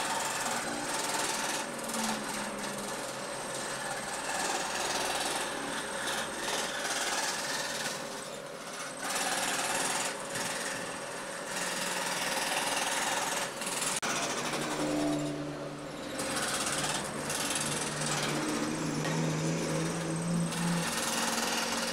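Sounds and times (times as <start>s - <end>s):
scroll saw cutting wood: 0.0s - 21.9s.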